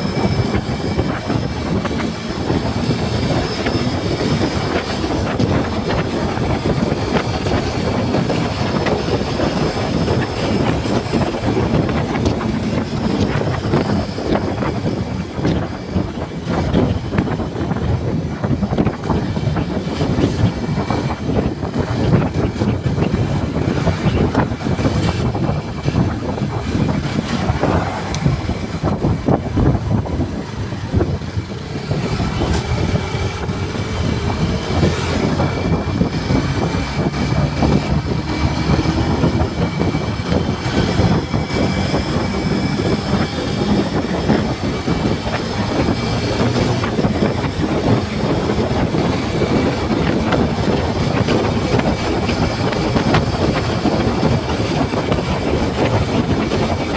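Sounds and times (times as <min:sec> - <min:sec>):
motorcycle engine and tyre noise: 0:00.0 - 0:56.9
wind buffeting microphone: 0:00.0 - 0:56.9.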